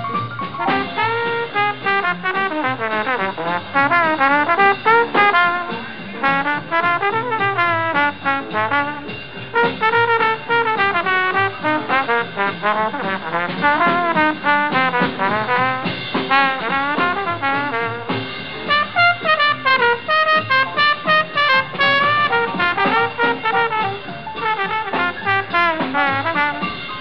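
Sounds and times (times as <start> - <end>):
lively brass music: 0.0 - 27.0.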